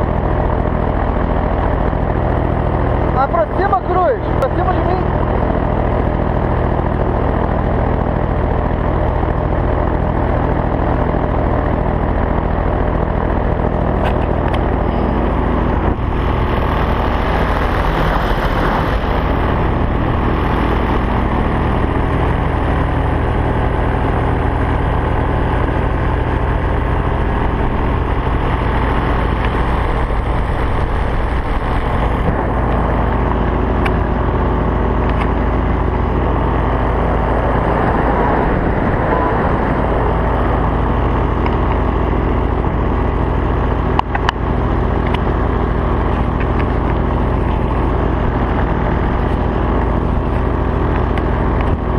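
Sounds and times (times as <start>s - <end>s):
paramotor engine and propeller drone: 0.0s - 51.9s.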